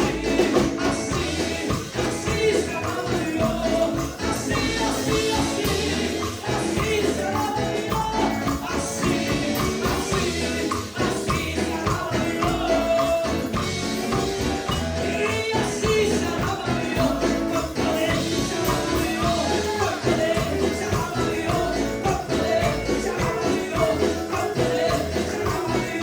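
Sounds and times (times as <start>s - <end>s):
people singing with a band: 0.0s - 26.0s
tambourine: 0.0s - 26.0s.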